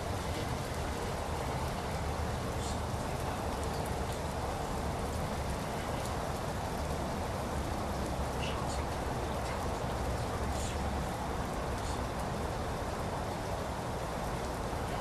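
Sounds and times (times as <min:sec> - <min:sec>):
faint drip ticks: 0:00.0 - 0:15.0
light rain hissing: 0:00.0 - 0:15.0.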